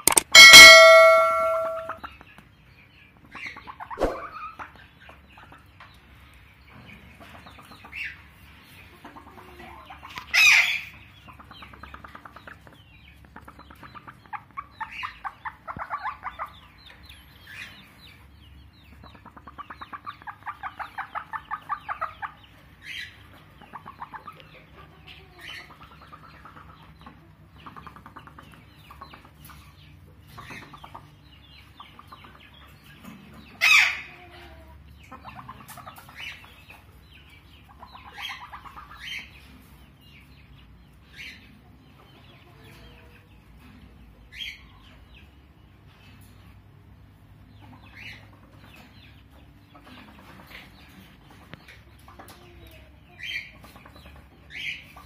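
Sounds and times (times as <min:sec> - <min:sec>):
hen clucking: 0:00.0 - 0:02.4, 0:03.2 - 0:06.0, 0:06.8 - 0:45.4, 0:47.3 - 0:55.0.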